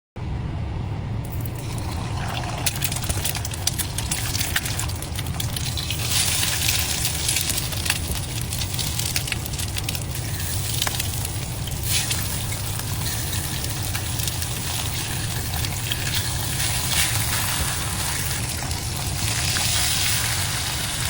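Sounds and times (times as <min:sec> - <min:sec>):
low hum: 0:00.2 - 0:21.0
water pouring and bubbling: 0:01.2 - 0:21.0
crackling ticks: 0:02.6 - 0:20.8.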